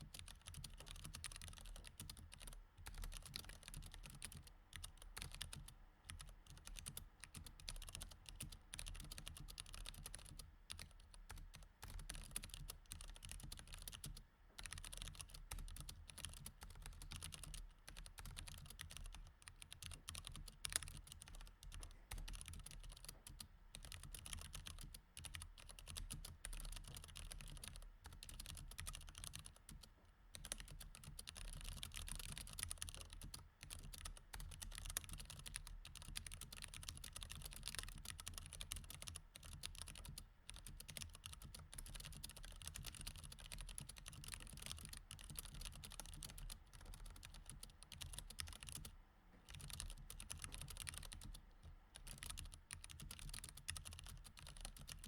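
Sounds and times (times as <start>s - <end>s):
mechanical keyboard typing: 0.1s - 51.4s, 52.0s - 55.0s.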